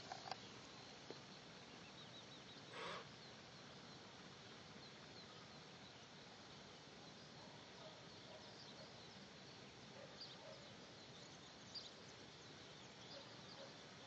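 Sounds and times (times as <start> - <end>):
distant birds chirping: 0.0 - 14.0
faint outdoor hiss: 0.0 - 14.0.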